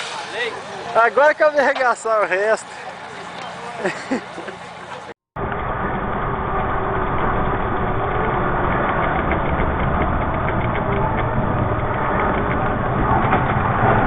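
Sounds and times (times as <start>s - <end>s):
vehicle engine running: 2.6s - 14.0s.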